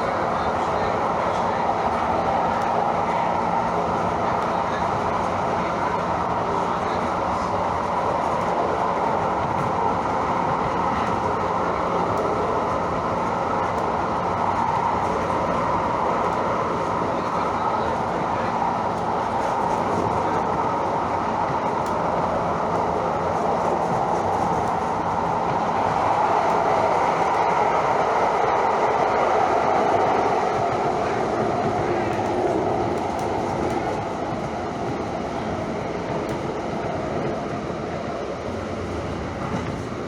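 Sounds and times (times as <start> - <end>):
train rumbling along track: 0.0 - 40.0.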